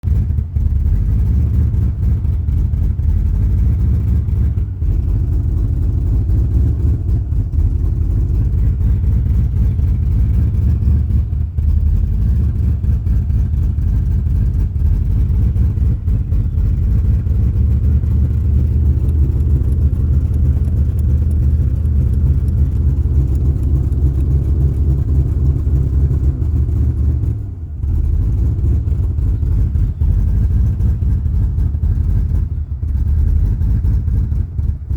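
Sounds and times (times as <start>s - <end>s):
pickup engine idling rough: 0.0s - 34.9s.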